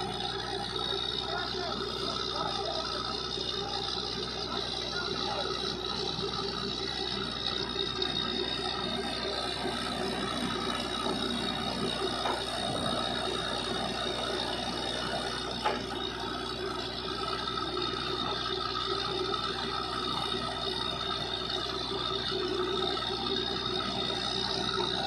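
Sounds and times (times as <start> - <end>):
drilling rig drone with whine: 0.0 - 25.0.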